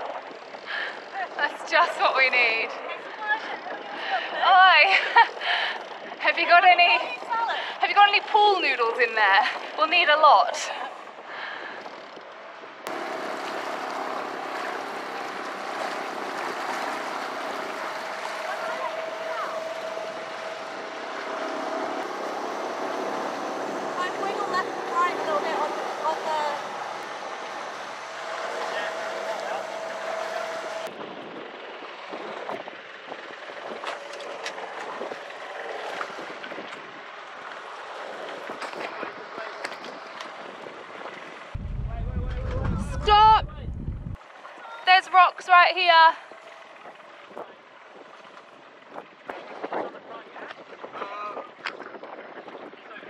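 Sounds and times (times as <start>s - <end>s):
water noise: 0.0s - 52.8s
wind: 0.0s - 53.0s.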